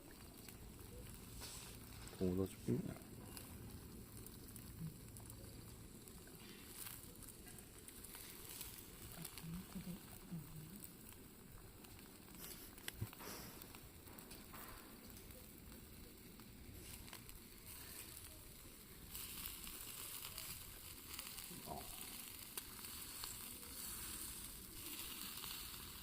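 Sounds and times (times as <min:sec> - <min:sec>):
food sizzling: 0:00.0 - 0:26.0.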